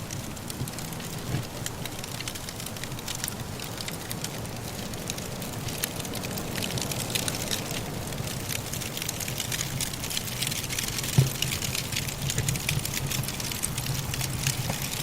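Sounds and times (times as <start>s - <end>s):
low steady rush: 0.0s - 15.0s
wood fire crackling: 0.0s - 15.0s.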